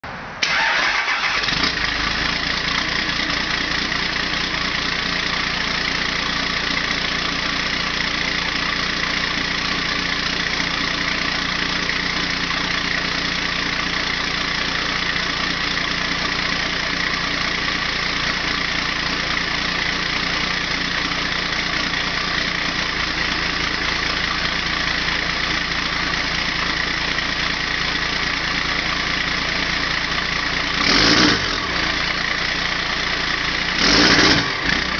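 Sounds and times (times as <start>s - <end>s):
diesel engine starting and idling: 0.1s - 34.9s.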